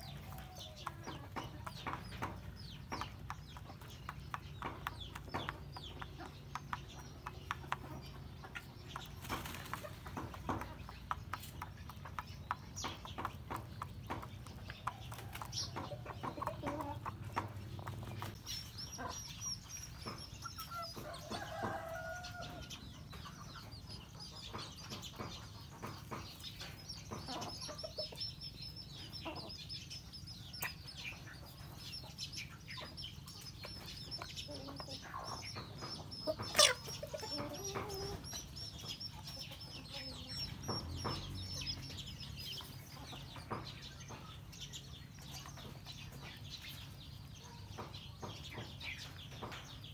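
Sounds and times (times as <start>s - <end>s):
beaks pecking at dirt: 0.0s - 49.9s
hens clucking: 0.0s - 49.9s.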